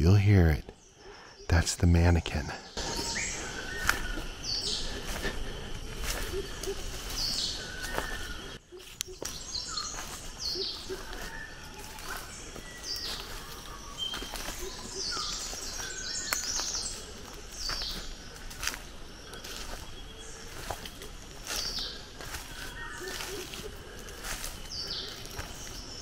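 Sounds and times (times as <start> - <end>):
whistled bird notes: 2.6 - 26.0
high bird chirps: 2.7 - 26.0
footsteps on dry leaves: 2.8 - 26.0.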